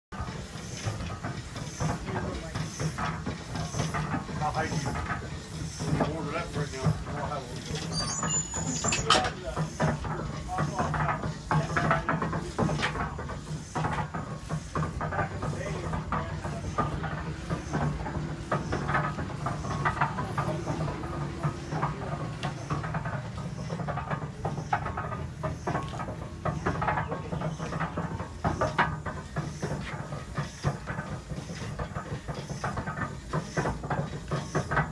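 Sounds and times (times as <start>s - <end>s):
steam engine chuffing: 0.1s - 34.9s
steam hissing: 0.1s - 34.9s.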